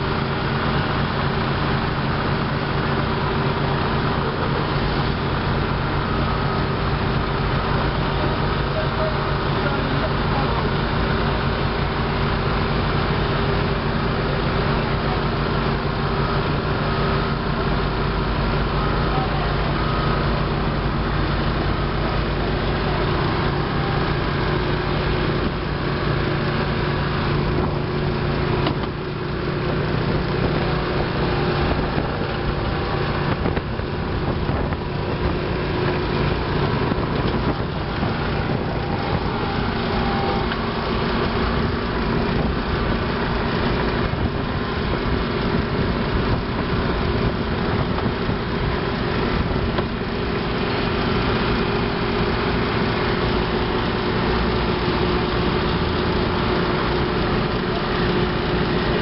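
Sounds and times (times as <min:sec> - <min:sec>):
engines droning: 0:00.0 - 0:59.0.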